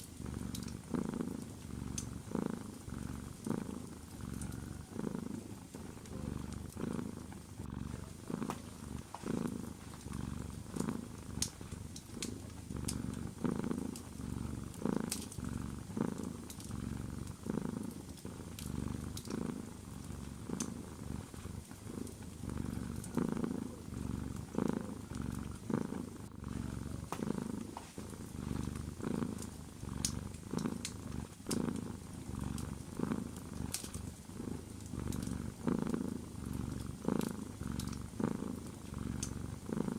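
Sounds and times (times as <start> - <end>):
cat purring: 0.0 - 39.9
wood fire crackling: 3.0 - 38.1.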